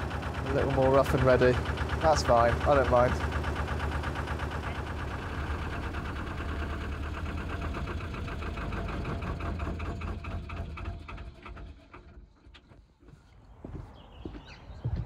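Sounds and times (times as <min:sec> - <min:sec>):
boat diesel engine running: 0:00.0 - 0:13.8.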